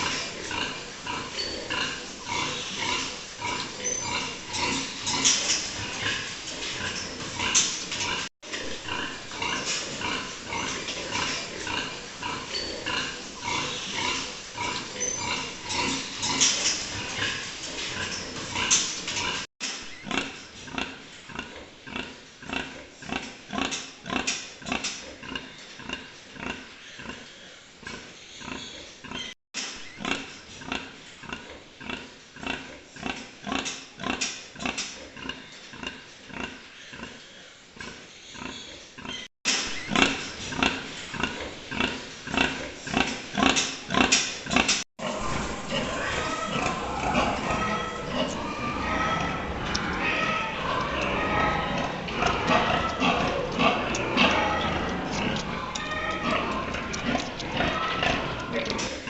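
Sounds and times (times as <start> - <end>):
pigs grunting and squealing: 0.0 - 59.0.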